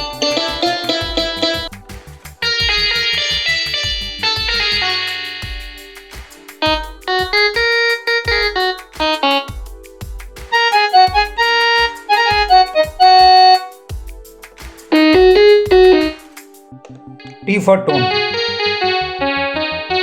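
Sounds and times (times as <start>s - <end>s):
steady electronic beat: 0.0s - 18.6s
electronic keyboard melody: 0.0s - 20.0s.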